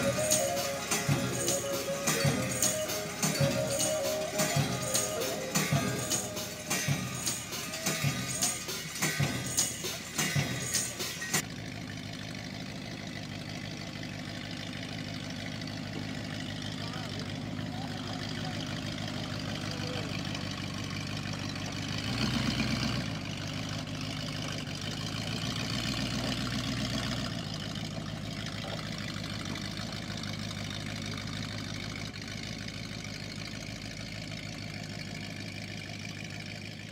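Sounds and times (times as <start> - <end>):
vehicle engine at low revs: 0.0 - 36.9.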